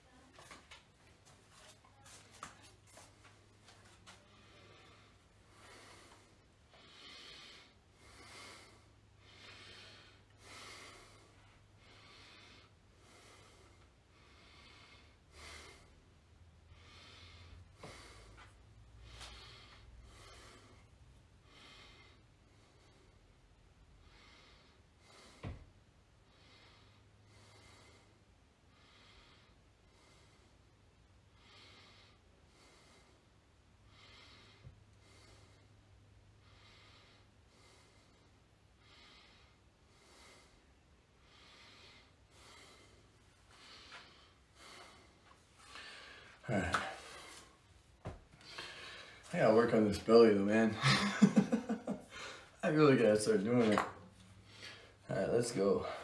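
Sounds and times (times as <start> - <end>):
man breathing hard: 4.2 - 23.4, 24.0 - 49.3, 50.5 - 52.6, 54.3 - 56.0.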